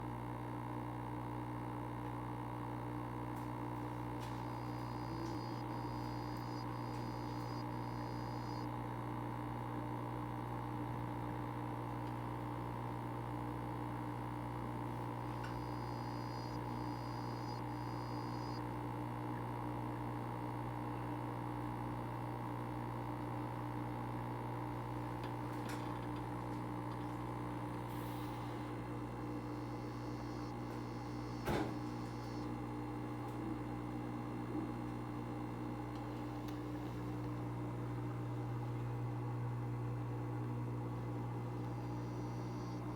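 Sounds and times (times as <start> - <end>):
aquarium low hum: 0.0 - 42.9.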